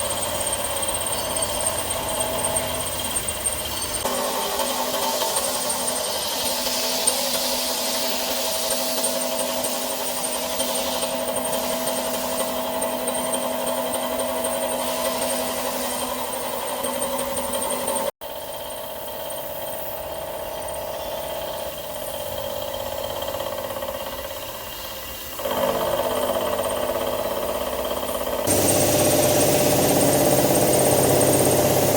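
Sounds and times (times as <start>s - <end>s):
mill spindle whine: 0.0s - 31.9s.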